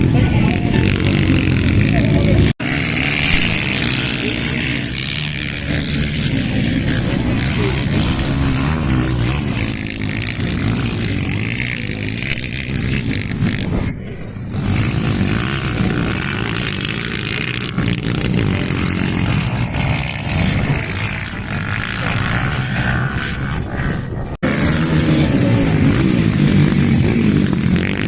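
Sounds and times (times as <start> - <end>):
motocross motorcycles revving: 0.0 - 28.0.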